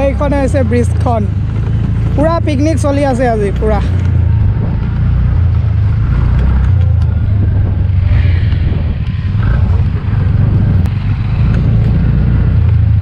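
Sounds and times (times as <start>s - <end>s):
motorcycle engine rumbling: 0.0s - 13.0s
road noise on dirt track: 0.0s - 13.0s.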